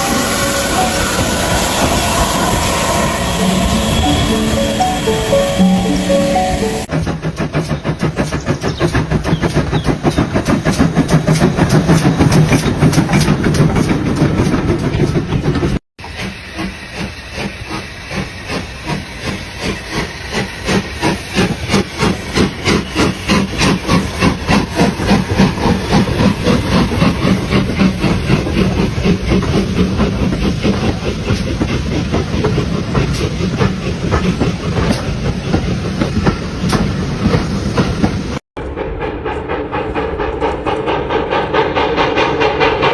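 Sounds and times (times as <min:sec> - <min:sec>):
steam hiss: 0:00.0 - 0:15.3, 0:16.0 - 0:38.2
steam locomotive chuffing: 0:00.0 - 0:42.9.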